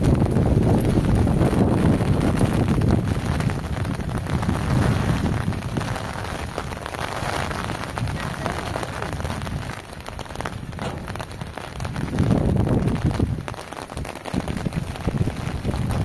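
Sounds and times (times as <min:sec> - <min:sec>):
rain falling on hard surfaces: 0:00.0 - 0:16.0
wind rumble on microphone: 0:00.0 - 0:16.0.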